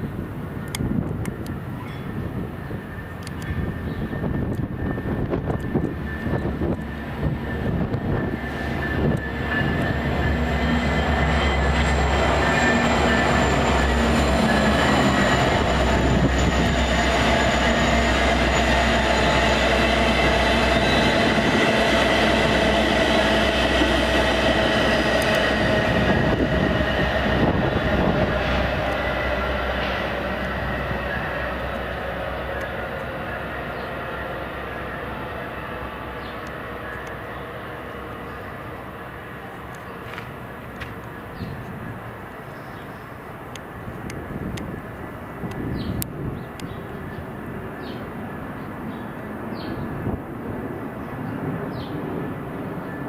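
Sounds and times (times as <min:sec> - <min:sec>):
diesel train passing: 0:00.0 - 0:53.0
rumble of train wheels: 0:00.0 - 0:53.0.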